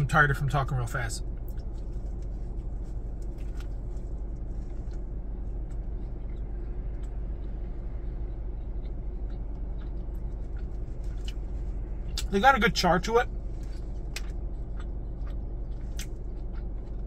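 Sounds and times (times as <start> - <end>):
low rumble inside car cabin: 0.0 - 17.0
burger being bitten and chewed: 1.2 - 12.7, 13.3 - 17.0.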